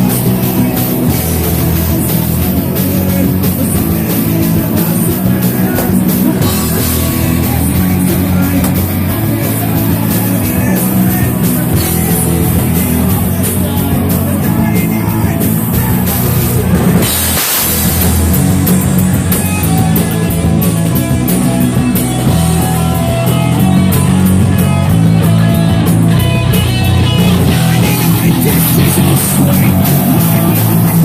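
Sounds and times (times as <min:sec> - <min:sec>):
loud rock band playing: 0:00.0 - 0:31.0.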